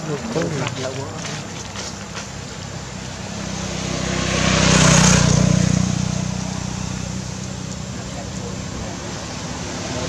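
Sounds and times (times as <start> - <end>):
vehicle passing by: 0.0 - 10.0.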